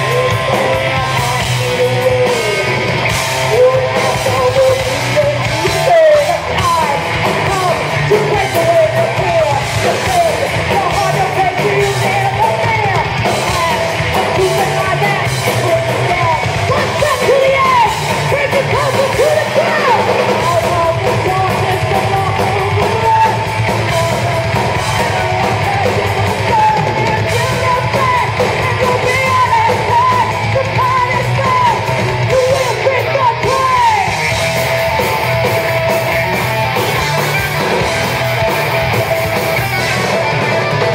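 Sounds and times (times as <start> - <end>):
heavy metal band playing: 0.0 - 40.9
vocalist singing and shouting: 0.0 - 40.9.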